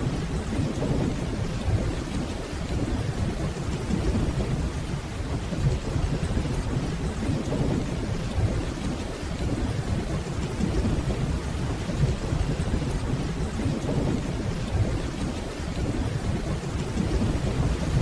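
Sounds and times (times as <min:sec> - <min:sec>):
steady rainfall: 0:00.0 - 0:18.0
distant thunder rumble: 0:00.1 - 0:18.0.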